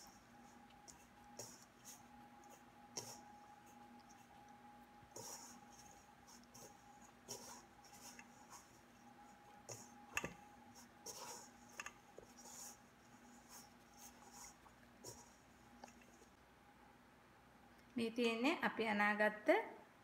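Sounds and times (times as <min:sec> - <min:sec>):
hands kneading dough: 0:00.0 - 0:16.4
faint steady hum: 0:00.0 - 0:20.0.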